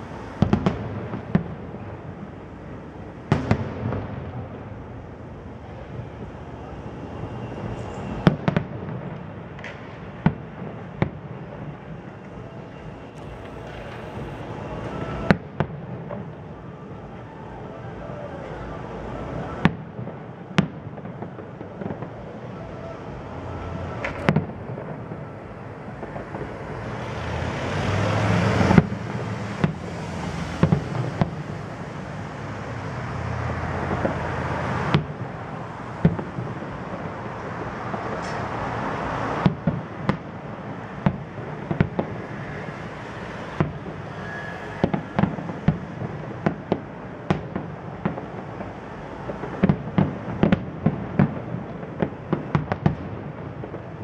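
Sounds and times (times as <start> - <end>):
continuous rushing noise: 0.0 - 54.0
fireworks bangs: 0.0 - 54.0.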